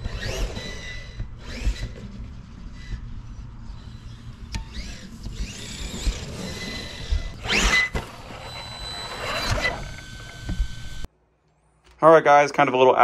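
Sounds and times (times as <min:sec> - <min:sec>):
electric motor whining: 0:00.0 - 0:11.1.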